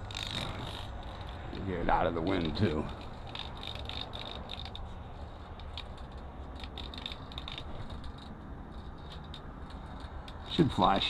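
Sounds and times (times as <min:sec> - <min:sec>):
small clicks and rattles: 0:00.0 - 0:11.0.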